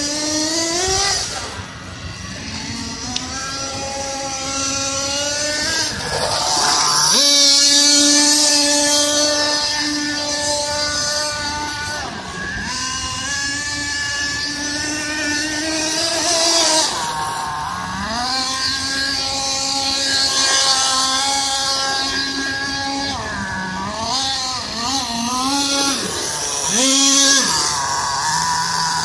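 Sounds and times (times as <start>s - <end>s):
model truck engine revving: 0.0s - 29.0s.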